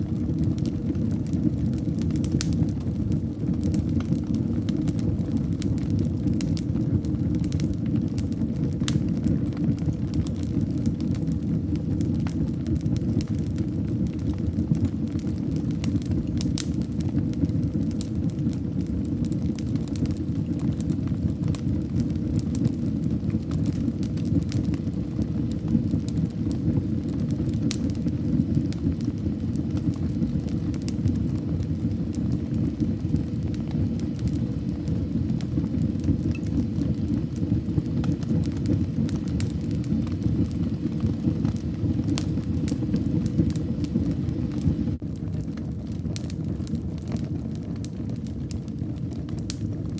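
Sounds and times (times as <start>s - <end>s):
fire crackling and popping: 0.0s - 49.9s
fire flames rumbling: 0.0s - 49.9s.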